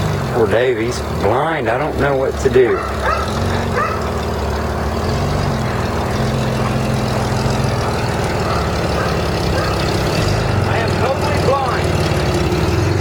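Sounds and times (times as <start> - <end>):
pickup engine running at low revs: 0.0 - 13.0.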